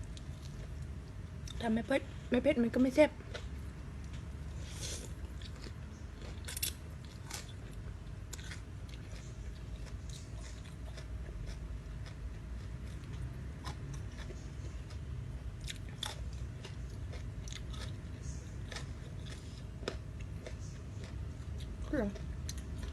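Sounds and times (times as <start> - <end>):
chewing and crunching food: 0.0 - 22.9
steady low hum: 0.0 - 22.9.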